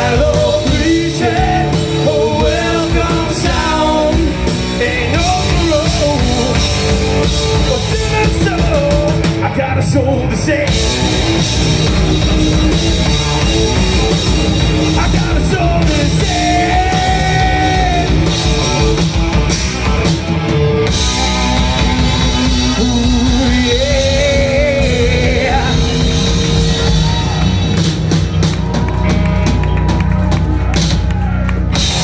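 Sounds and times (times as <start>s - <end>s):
drumming: 0.0s - 9.7s, 10.6s - 32.0s
rock band playing: 0.0s - 32.0s.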